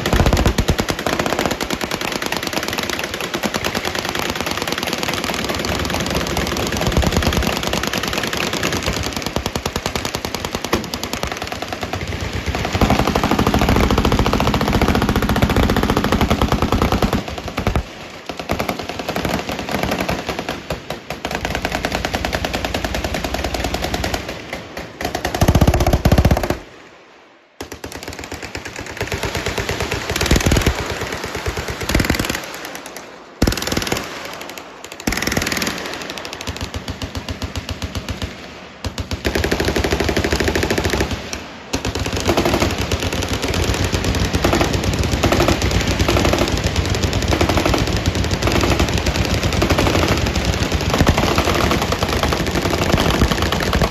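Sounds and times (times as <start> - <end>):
automatic gunfire bursts: 0.0 - 26.7, 27.6 - 53.9.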